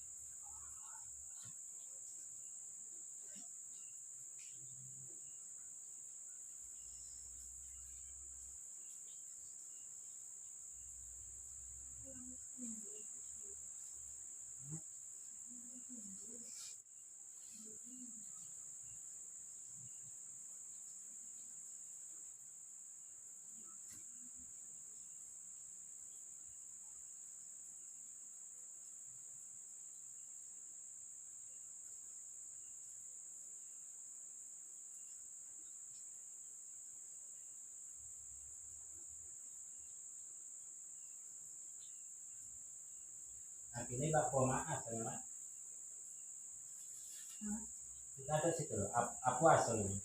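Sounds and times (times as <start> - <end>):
high-pitched insect trill: 0.0 - 50.0.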